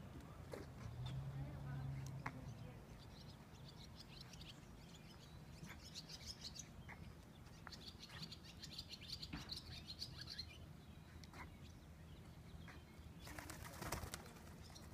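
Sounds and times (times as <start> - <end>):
small birds chirping: 0.1 - 14.9.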